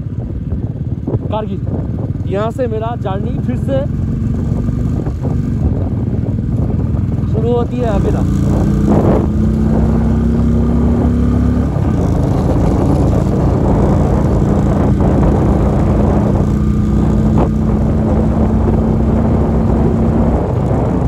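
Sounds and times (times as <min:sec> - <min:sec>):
motorcycle engine cruising: 0:00.0 - 0:21.0
wind and road noise: 0:00.0 - 0:21.0.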